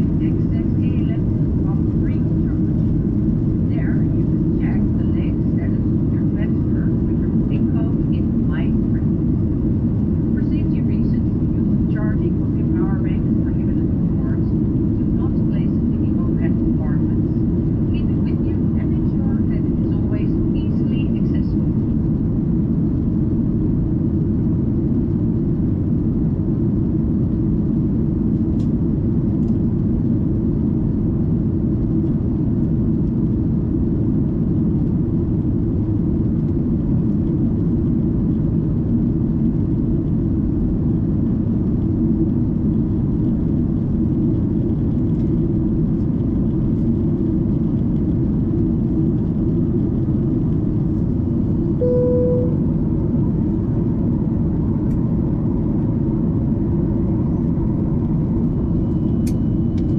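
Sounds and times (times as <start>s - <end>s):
airliner cabin jet engine rumble: 0.0s - 59.9s.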